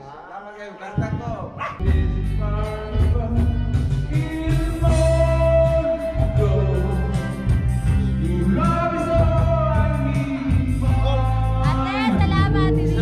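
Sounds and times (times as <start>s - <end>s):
backing instruments and bass: 1.0s - 13.0s.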